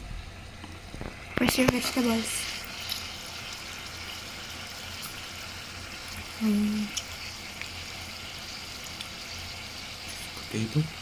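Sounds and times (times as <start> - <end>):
hot pot simmering hiss: 0.0 - 11.0.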